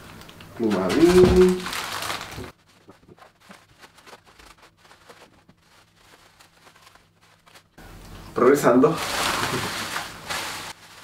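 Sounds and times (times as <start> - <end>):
bubble wrap crinkling: 0.0 - 11.0
low steady hum: 0.0 - 11.0.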